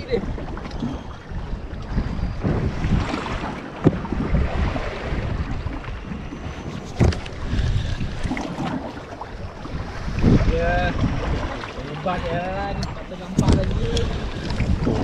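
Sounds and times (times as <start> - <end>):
sea and boat noise: 0.0 - 15.0
wind buffeting microphone: 0.0 - 15.0.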